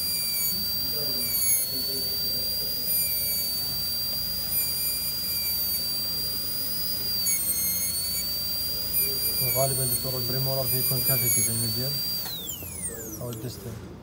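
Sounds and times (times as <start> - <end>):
dental drill whining: 0.0 - 13.7.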